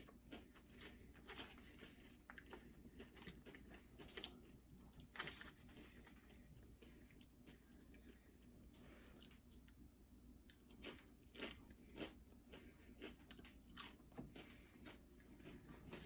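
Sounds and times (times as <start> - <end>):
chewing crunchy chips: 0.0 - 9.8, 10.4 - 16.0.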